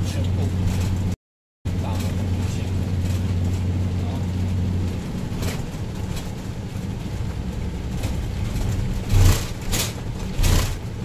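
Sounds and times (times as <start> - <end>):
engine and road rumble in cabin: 0.0 - 11.0.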